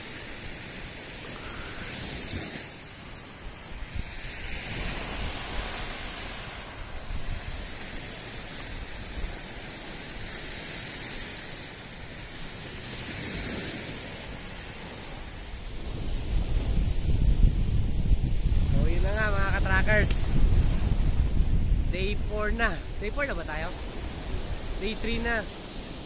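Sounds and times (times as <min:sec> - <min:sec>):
waves washing on sand: 0:00.0 - 0:26.0
wind gusting on microphone: 0:00.0 - 0:26.0.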